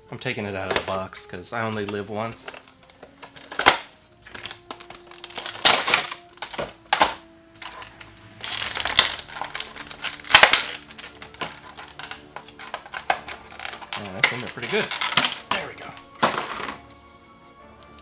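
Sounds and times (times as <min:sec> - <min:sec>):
plastic tray crinkling: 0:00.6 - 0:16.9.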